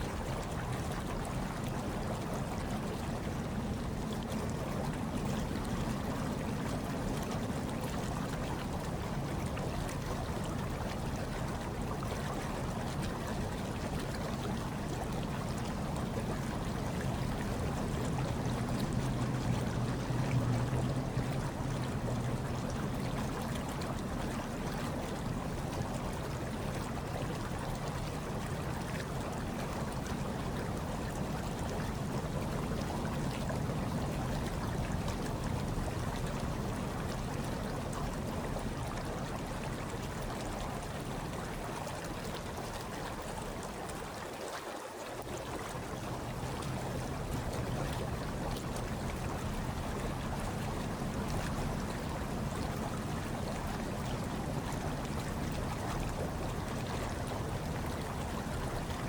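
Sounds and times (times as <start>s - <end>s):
hot tub water bubbling: 0.0s - 59.0s.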